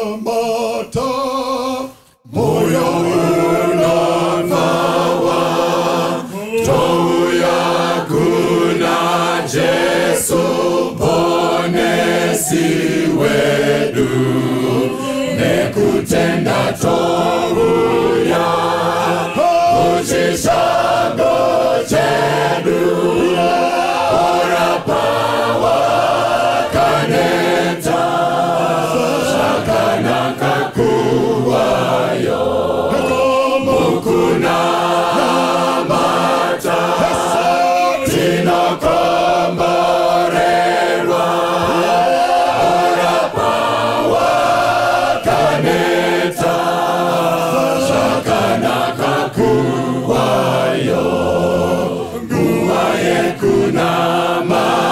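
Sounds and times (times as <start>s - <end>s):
church choir singing a hymn: 0.0s - 54.9s.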